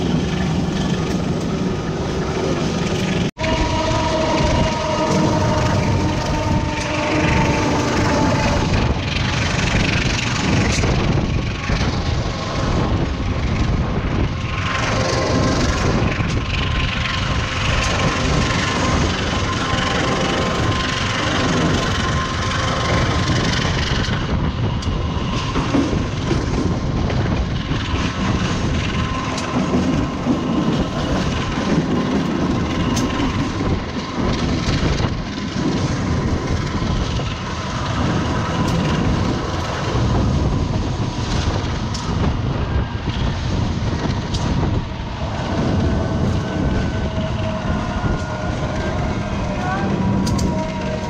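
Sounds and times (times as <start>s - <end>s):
train engine and wheels rumbling: 0.0s - 51.0s
wheels clicking over rail joints: 4.1s - 51.0s.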